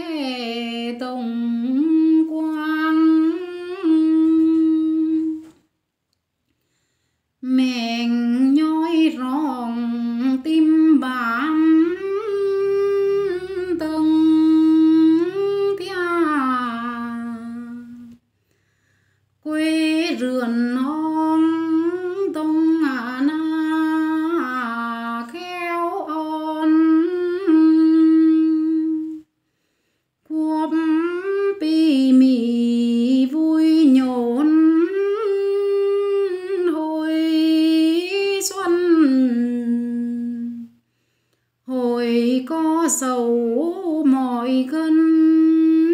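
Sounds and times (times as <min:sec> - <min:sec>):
woman singing: 0:00.0 - 0:05.6, 0:07.4 - 0:18.2, 0:19.4 - 0:29.3, 0:30.2 - 0:40.8, 0:41.6 - 0:45.9.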